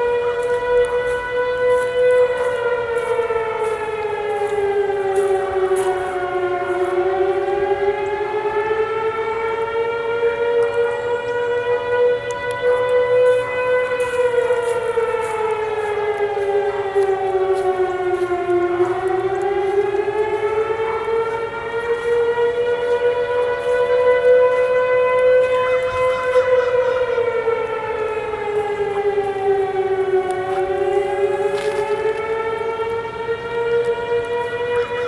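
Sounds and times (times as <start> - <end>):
rising and falling siren: 0.0 - 35.0
steady siren tone: 0.0 - 35.0.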